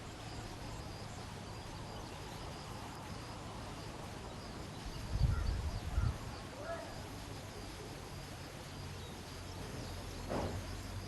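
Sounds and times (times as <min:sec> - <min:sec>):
faint high-pitched chirping: 0:00.0 - 0:11.0
steady background hiss: 0:00.0 - 0:11.0.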